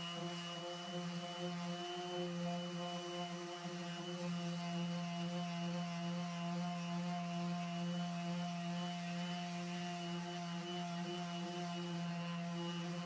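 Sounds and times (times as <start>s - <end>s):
power tool motor humming: 0.0s - 13.0s.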